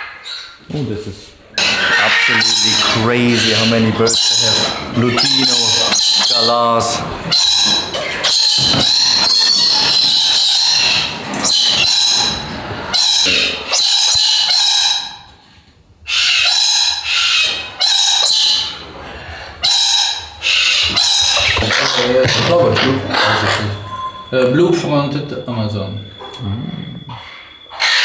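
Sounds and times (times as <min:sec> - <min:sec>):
parrots screeching: 0:00.0 - 0:00.6, 0:01.5 - 0:15.4, 0:16.0 - 0:28.0.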